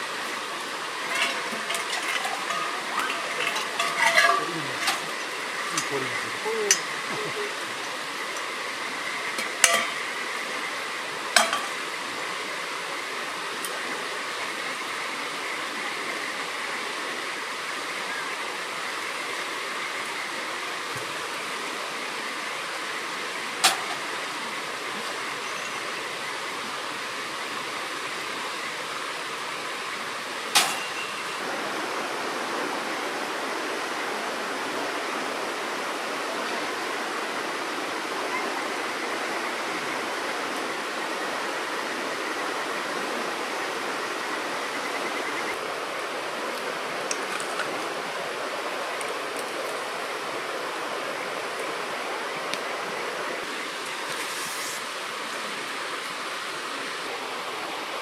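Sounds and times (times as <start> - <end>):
stream rushing: 0.0 - 58.0.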